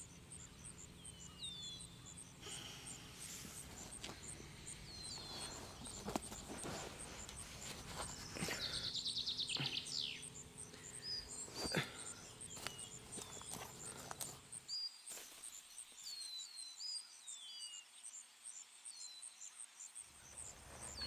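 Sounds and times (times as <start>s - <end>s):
bird chirps: 0.0s - 21.0s
insects chirping: 0.0s - 21.0s.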